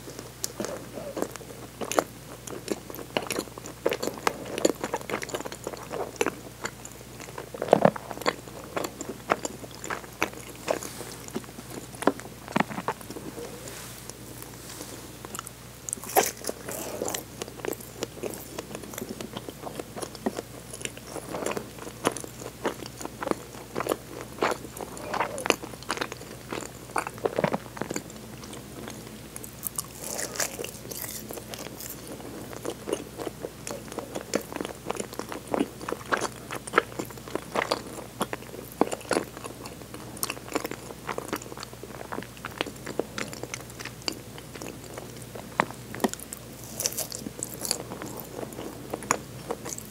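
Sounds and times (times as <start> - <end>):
wet chewing clicks: 0.1 - 13.6, 15.2 - 49.9.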